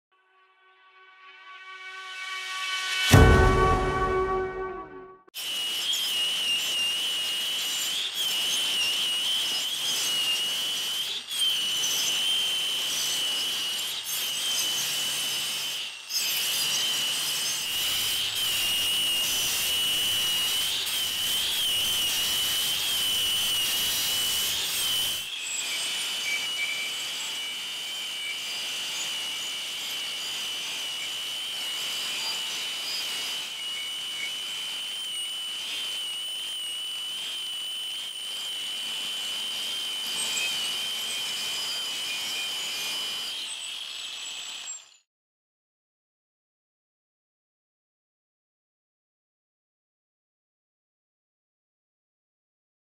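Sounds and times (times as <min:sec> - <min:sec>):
angle grinder grinding metal: 0:01.0 - 0:45.0.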